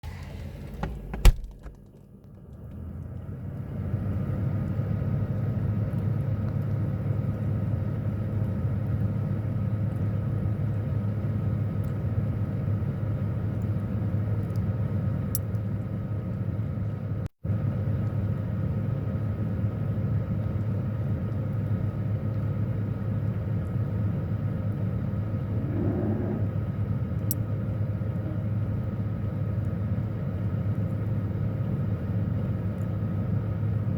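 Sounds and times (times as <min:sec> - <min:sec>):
refrigerator humming: 0:00.0 - 0:33.9.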